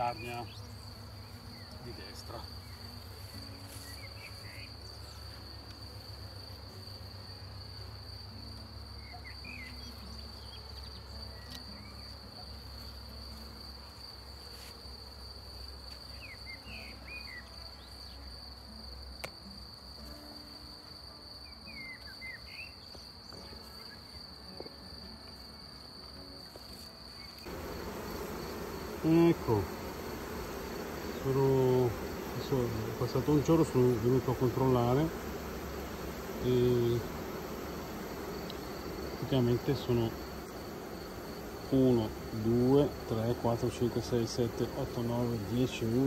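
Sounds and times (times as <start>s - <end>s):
honeybees buzzing: 0.0s - 18.6s, 20.1s - 46.0s
cricket trilling: 0.0s - 46.0s.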